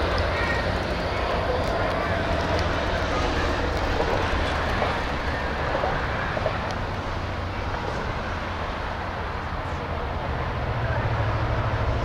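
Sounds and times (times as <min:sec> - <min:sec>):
engines humming: 0:00.0 - 0:12.0
traffic rushing past: 0:00.0 - 0:12.0.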